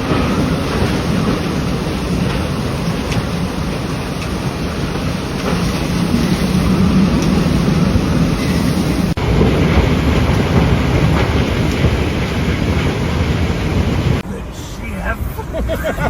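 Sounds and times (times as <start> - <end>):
wind buffeting microphone: 0.0 - 14.2
storm wind: 0.0 - 16.0.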